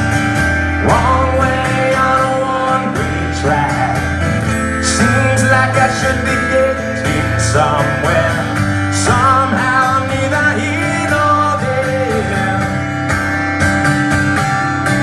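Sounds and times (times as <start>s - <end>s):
strummed acoustic guitar: 0.0s - 15.0s
man singing: 0.8s - 13.2s.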